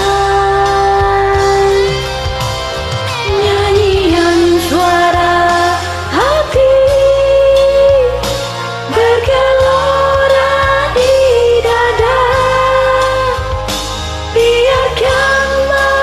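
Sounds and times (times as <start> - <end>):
karaoke backing track: 0.0 - 16.0.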